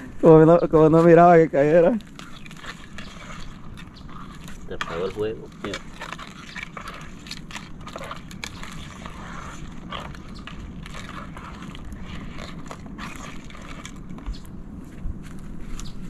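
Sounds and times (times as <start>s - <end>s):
steady low rumble: 0.0s - 16.0s
wood fire crackling: 0.0s - 16.0s.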